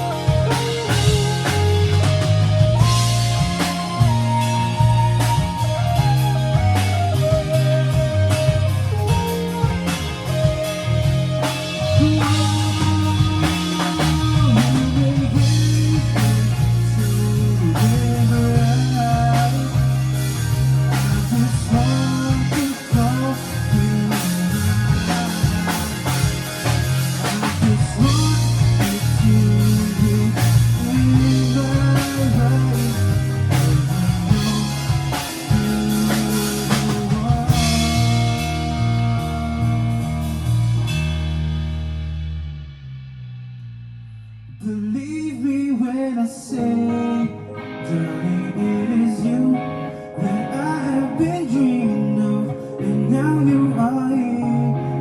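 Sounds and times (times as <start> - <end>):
electric guitar bending pitch: 0.0 - 55.0
rock band playing: 0.0 - 55.0.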